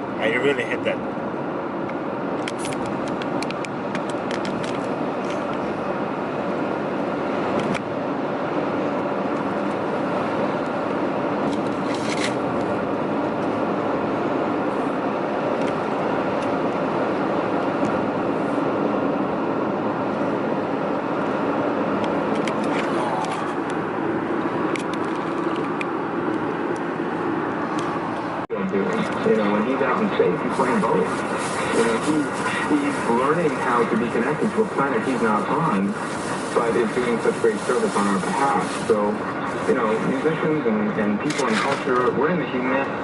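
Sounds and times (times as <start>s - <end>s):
car road and wind noise: 0.0s - 43.0s.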